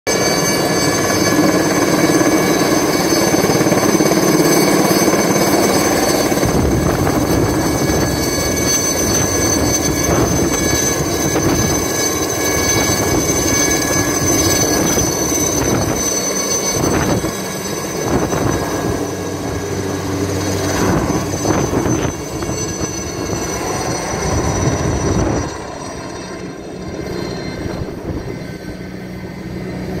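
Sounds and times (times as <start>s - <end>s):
helicopter rotor chop: 0.1s - 30.0s
helicopter turbine whining: 0.1s - 30.0s.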